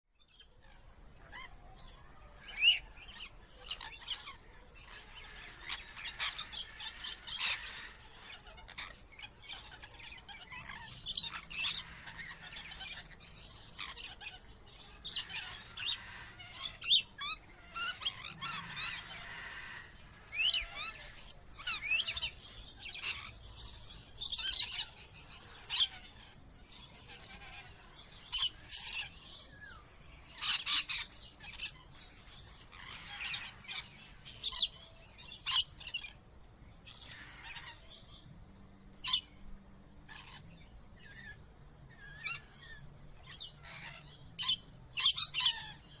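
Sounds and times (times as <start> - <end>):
lorikeets screeching and chirping: 0.2 - 46.0.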